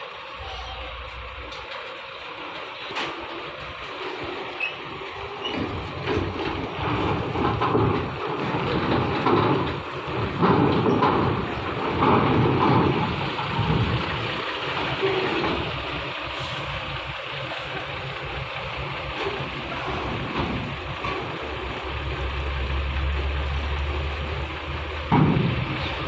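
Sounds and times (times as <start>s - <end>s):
diesel truck engine at low revs: 0.0s - 26.0s.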